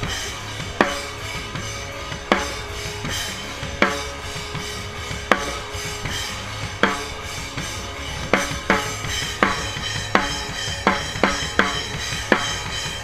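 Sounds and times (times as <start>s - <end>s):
band sustained low tones: 0.0s - 13.0s
heavy drum hits: 0.0s - 13.0s.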